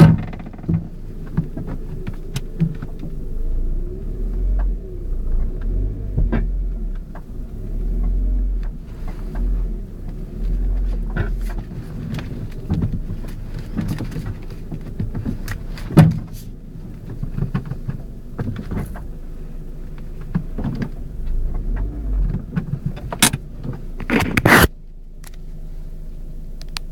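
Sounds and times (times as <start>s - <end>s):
low rumble: 0.0s - 25.2s
car suspension clunking: 0.0s - 25.5s.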